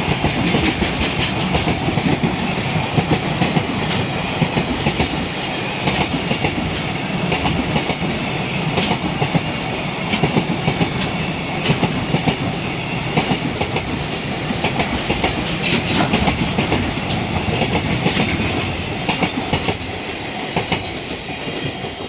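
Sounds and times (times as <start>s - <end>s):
train rumble: 0.0s - 22.0s
train wheels clacking over rails: 0.0s - 22.0s.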